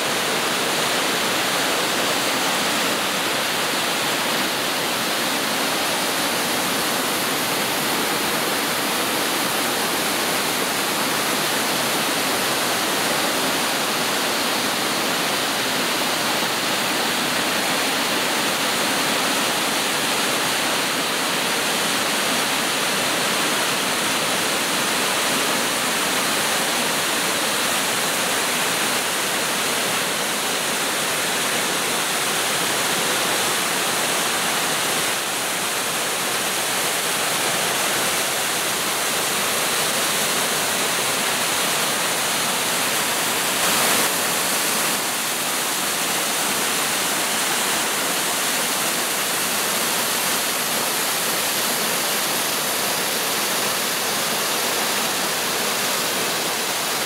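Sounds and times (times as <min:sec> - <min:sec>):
waterfall rushing over rocks: 0:00.0 - 0:57.0.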